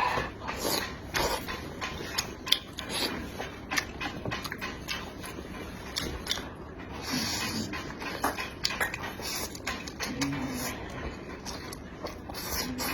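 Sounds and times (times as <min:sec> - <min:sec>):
wet chewing and smacking: 0:00.0 - 0:12.9.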